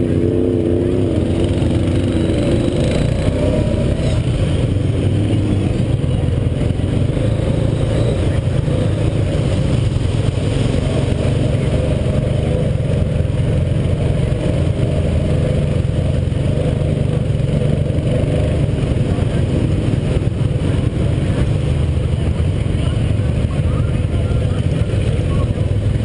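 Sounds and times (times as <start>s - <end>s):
atv engine droning: 0.0s - 26.0s.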